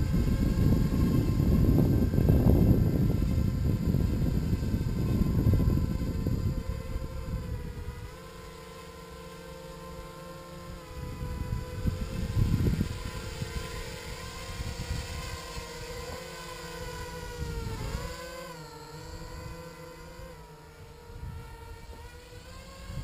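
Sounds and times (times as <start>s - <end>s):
wind buffeting microphone: 0.0s - 8.4s, 10.5s - 23.0s
drone propellers whining: 0.0s - 23.0s.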